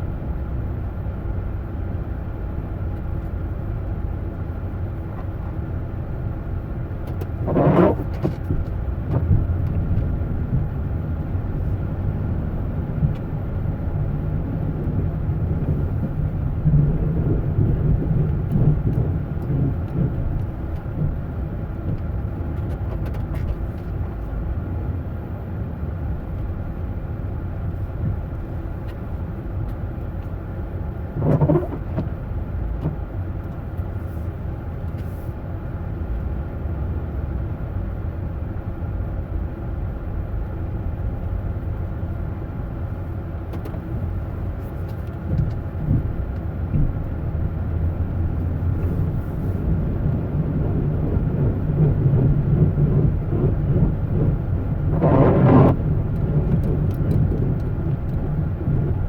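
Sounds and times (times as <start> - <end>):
motor vehicle rumbling: 0.0 - 59.0.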